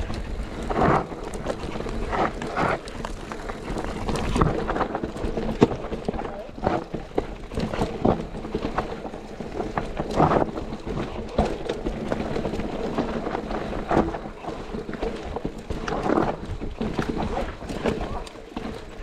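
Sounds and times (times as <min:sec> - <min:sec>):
bike rattling and knocking: 0:00.0 - 0:19.0
bike tyres rolling over dirt: 0:00.0 - 0:19.0
wind buffeting microphone: 0:00.0 - 0:19.0.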